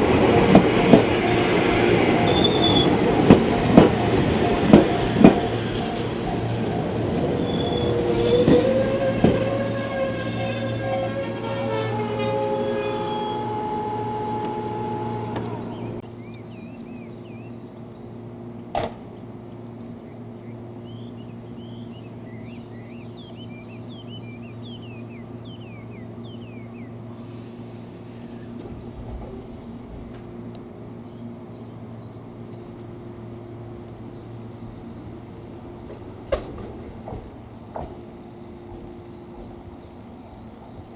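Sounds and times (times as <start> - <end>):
birds chirping: 0.0 - 27.4, 28.1 - 40.9
high insect drone: 0.0 - 35.8
departing train: 0.0 - 40.9.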